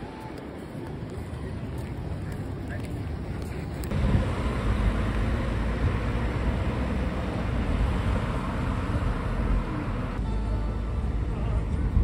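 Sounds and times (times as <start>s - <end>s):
car driving low rumble: 1.3s - 12.0s.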